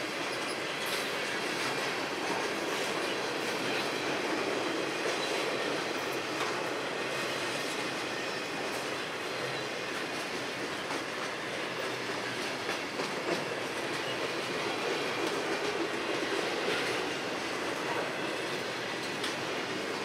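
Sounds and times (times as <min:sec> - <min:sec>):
train wheels rolling on rail: 0:00.0 - 0:20.0.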